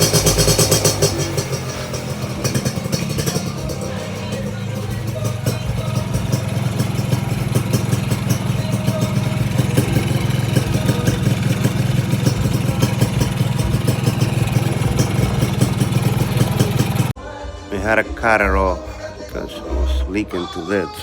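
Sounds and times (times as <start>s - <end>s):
two-stroke engine idling: 0.0s - 17.2s.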